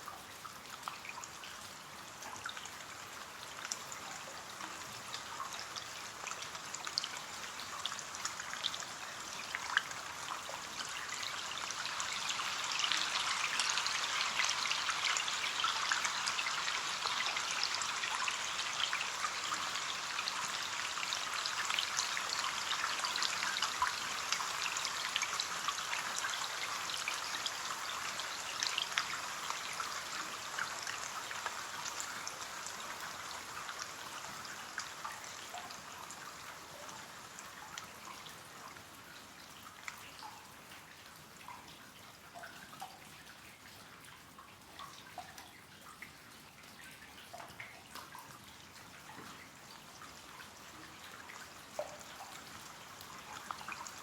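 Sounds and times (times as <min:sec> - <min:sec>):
rain on a window pane: 0:00.0 - 0:54.0.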